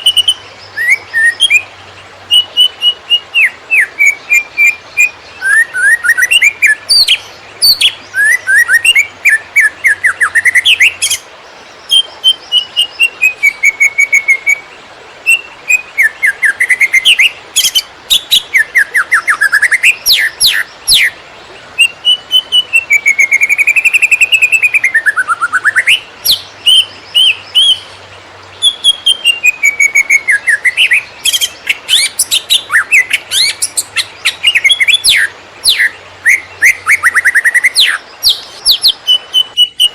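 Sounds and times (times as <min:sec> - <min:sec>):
bird singing whistled song: 0:00.0 - 0:01.7, 0:02.3 - 0:11.3, 0:11.9 - 0:21.2, 0:21.8 - 0:28.0, 0:28.6 - 0:39.9.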